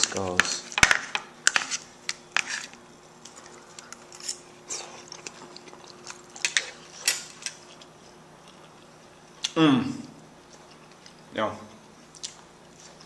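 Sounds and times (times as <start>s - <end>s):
man chewing food: 1.6s - 13.0s.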